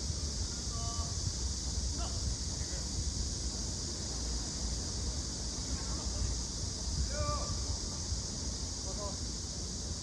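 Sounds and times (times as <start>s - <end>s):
constant high hiss: 0.0s - 10.0s.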